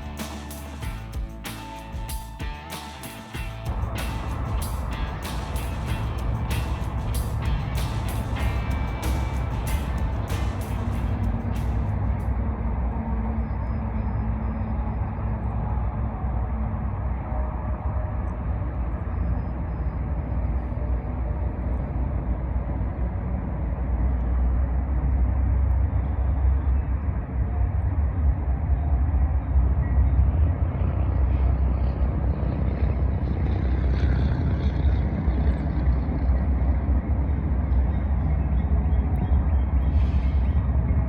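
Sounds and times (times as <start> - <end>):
diesel train engine rumble: 0.0 - 41.0.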